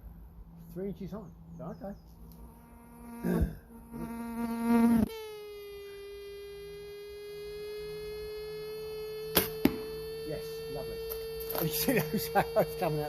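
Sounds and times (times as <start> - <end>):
fly buzzing: 2.1 - 13.0.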